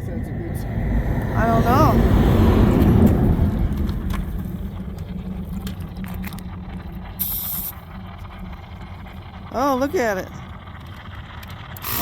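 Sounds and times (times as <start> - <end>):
steady low hum: 0.0 - 12.0
vehicle road rumble: 0.0 - 12.0.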